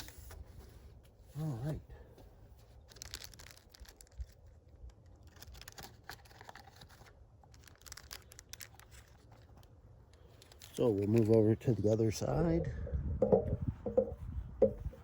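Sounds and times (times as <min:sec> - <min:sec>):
crinkling and rustling: 0:00.0 - 0:12.3.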